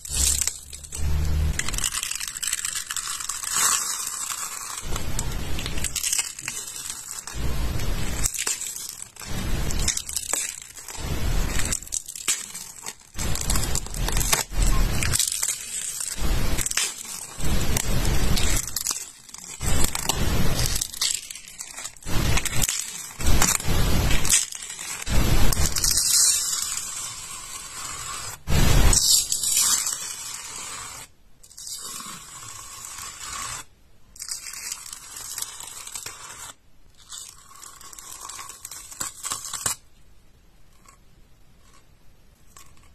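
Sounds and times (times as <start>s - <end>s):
plastic film crackling and tearing: 0.0s - 39.9s.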